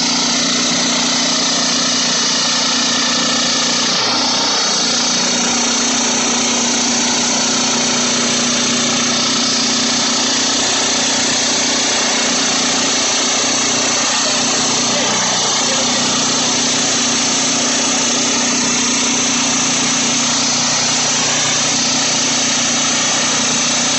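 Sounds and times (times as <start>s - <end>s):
saw hissing: 0.0s - 23.9s
sawmill gas engine running: 0.0s - 23.9s.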